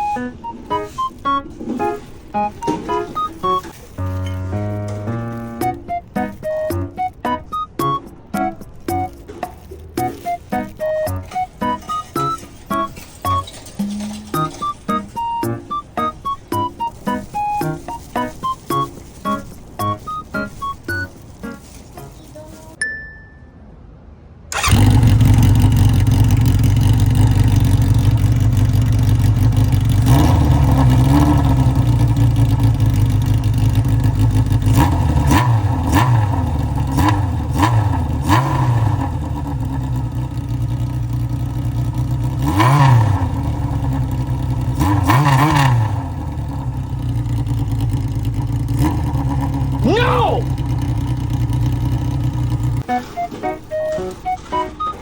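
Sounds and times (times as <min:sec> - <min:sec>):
motorcycle engine idling and revving: 0:02.4 - 0:22.2, 0:24.5 - 0:54.4.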